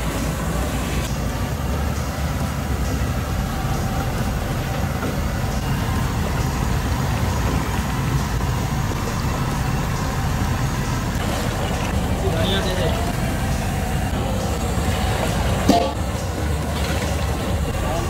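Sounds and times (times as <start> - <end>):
loud low rumble: 0.0 - 18.0.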